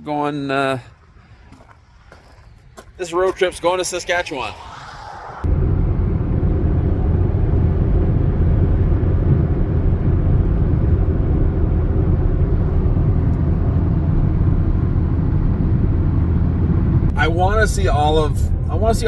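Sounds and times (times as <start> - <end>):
road and engine rumble: 0.0 - 19.0.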